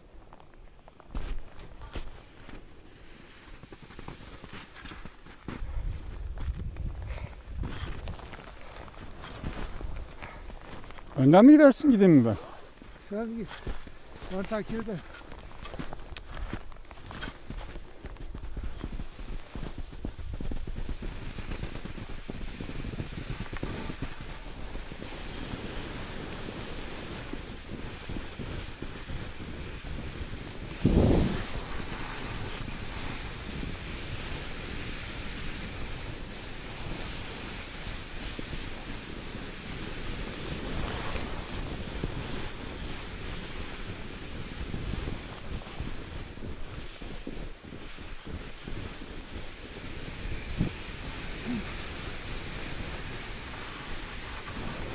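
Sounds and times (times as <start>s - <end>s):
skis running over snow: 0.0s - 54.9s
wind rushing over microphone: 5.1s - 54.9s.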